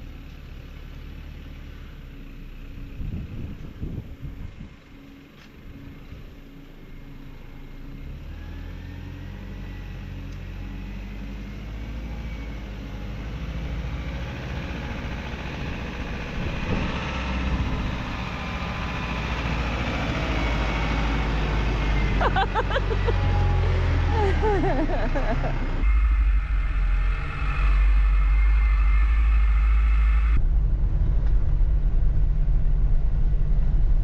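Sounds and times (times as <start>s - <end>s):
diesel truck engine passing: 0.0s - 34.0s.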